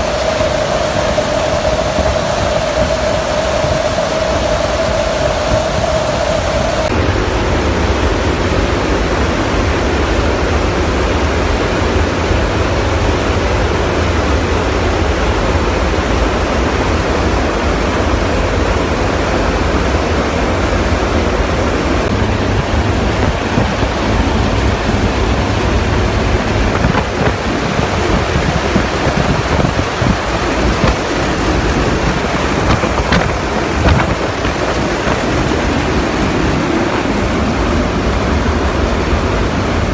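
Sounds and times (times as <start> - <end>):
wind and aircraft engine rush: 0.0 - 39.9
wind buffeting microphone: 0.0 - 39.9.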